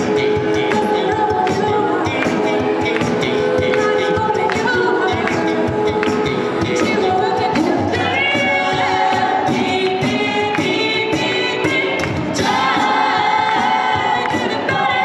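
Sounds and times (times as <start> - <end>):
group singing in close harmony: 0.0 - 15.0
vocal percussion beat: 0.0 - 15.0.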